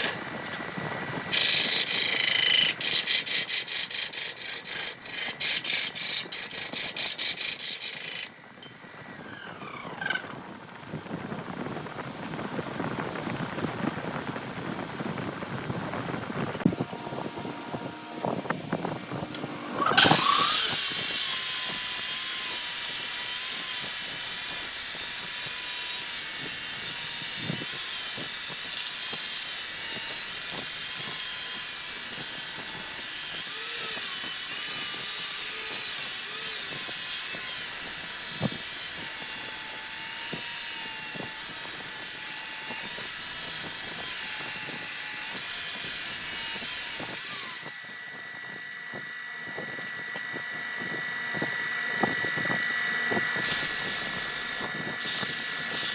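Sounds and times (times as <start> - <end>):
power tool whining: 0.0 - 55.9.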